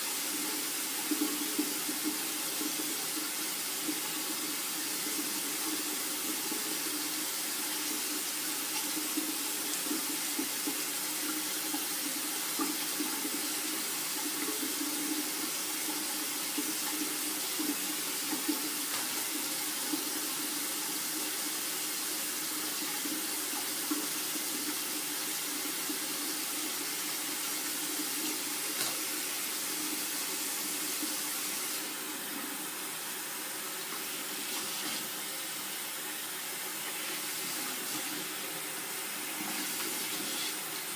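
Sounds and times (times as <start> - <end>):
tap water running into sink: 0.0 - 40.9.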